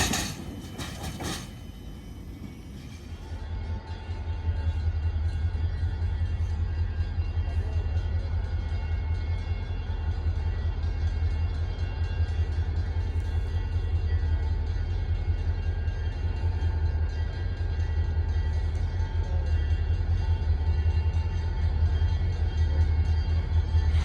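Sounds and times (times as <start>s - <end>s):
diesel train rumbling: 0.0s - 24.0s.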